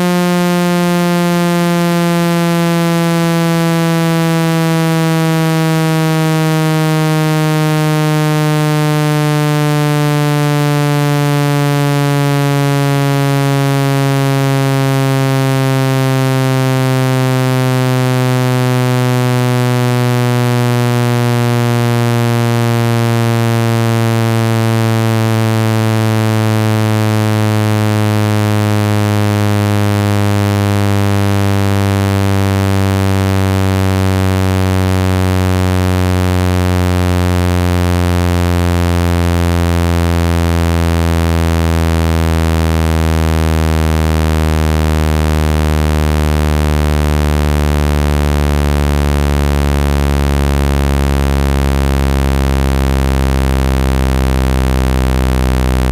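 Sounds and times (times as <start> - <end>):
buzzy electronic tone sliding down: 0.0 - 37.5, 38.9 - 55.9.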